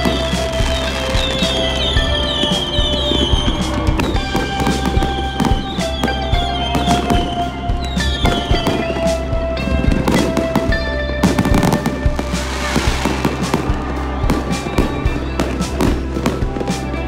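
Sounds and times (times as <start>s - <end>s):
fireworks popping and banging: 0.0s - 9.2s, 9.8s - 16.9s
fireworks crackling and hissing: 0.0s - 17.0s
music playing: 0.0s - 17.0s.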